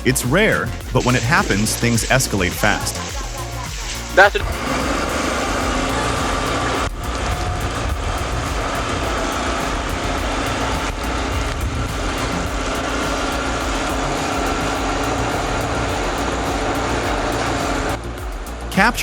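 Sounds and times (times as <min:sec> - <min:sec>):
heavy equipment engine running: 0:00.0 - 0:18.7.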